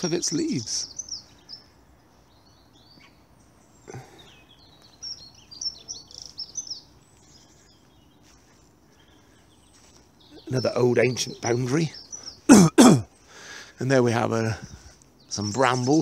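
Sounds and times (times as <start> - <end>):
faint outdoor hiss: 0.0 - 16.0
small songbird singing: 0.0 - 16.0.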